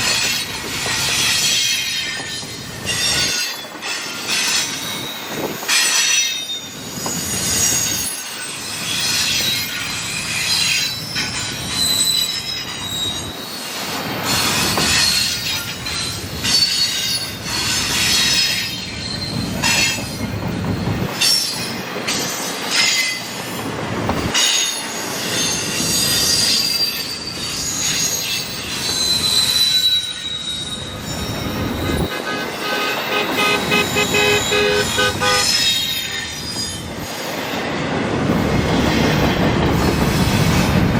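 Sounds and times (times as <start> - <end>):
train rumble: 0.0 - 40.9
train wheels squealing on rails: 0.0 - 40.9.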